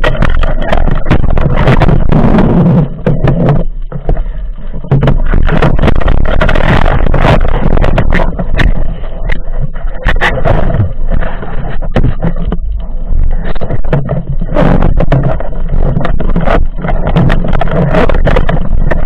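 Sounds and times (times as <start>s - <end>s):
underwater rumble and water rush: 0.0s - 19.0s.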